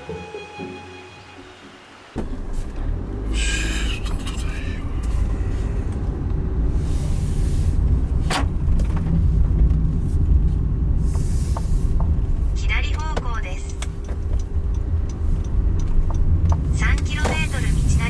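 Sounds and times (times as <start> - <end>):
vehicle rumbling on the move: 0.0 - 18.0.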